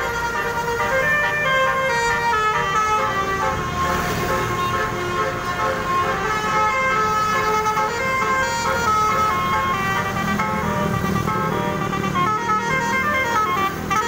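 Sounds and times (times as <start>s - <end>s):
musical bus air horn: 0.0s - 14.0s
passing motorcycles and traffic: 0.0s - 14.0s.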